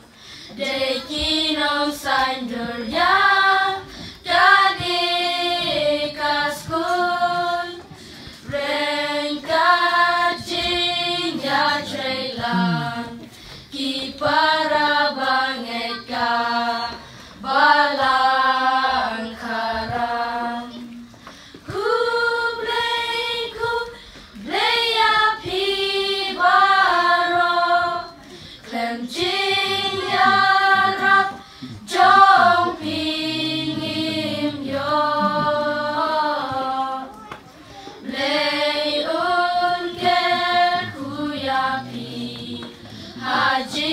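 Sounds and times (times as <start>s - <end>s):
children singing: 0.6s - 21.1s, 21.7s - 43.9s.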